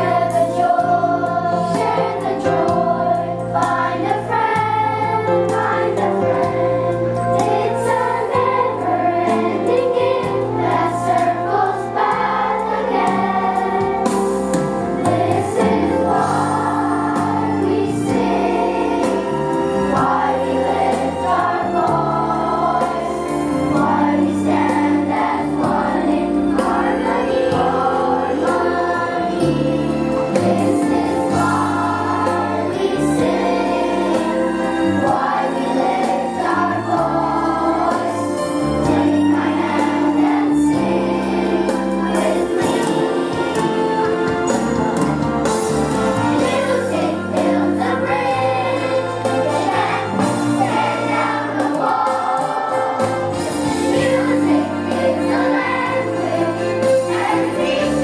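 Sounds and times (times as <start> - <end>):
children's choir singing: 0.0 - 58.0
instrumental accompaniment: 0.0 - 58.0.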